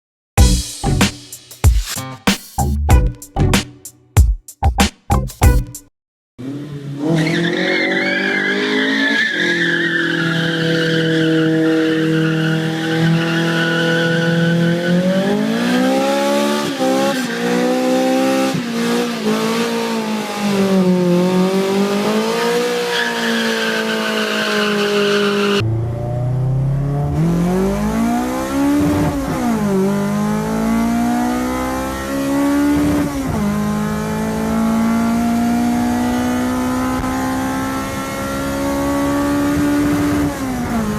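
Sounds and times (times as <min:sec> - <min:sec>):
car engines revving: 0:06.4 - 0:40.9.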